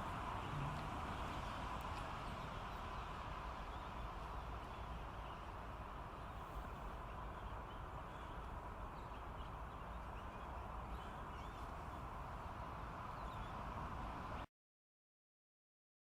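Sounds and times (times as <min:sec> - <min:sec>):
background noise: 0:00.0 - 0:14.5.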